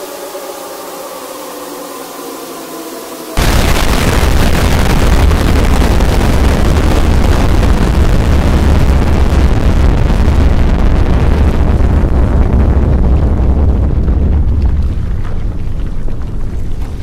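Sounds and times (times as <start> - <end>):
explosion rumble: 3.4 - 17.0.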